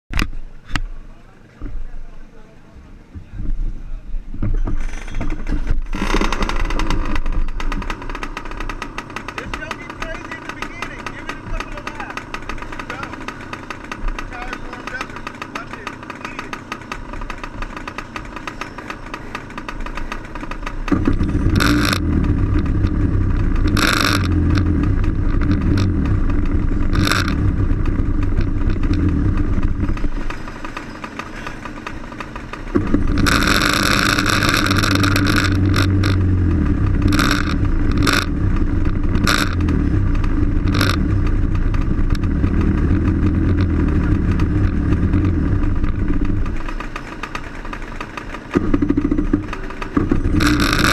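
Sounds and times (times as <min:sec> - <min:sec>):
two-stroke kart engine running: 0:00.2 - 0:50.9.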